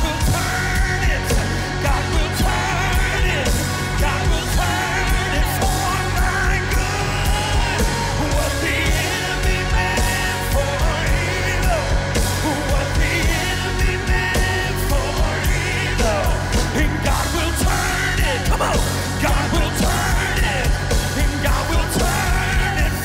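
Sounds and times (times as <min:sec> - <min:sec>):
singing: 0:00.0 - 0:23.0
worship band playing: 0:00.0 - 0:23.0.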